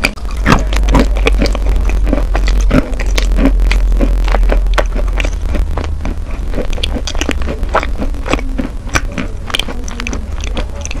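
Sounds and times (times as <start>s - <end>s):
chewing wet chalk: 0.0s - 11.0s
steady low hum: 0.0s - 11.0s.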